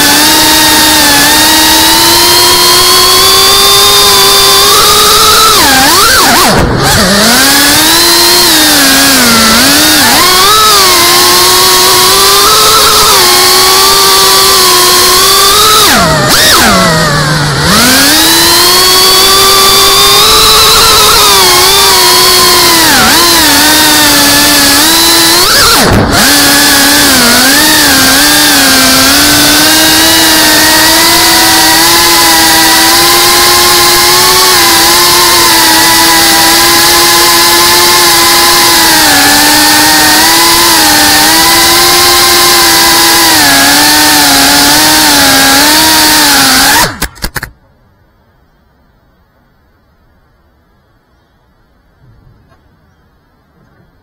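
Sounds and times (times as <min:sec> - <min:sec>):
quadcopter motors whining: 0:00.0 - 0:47.5.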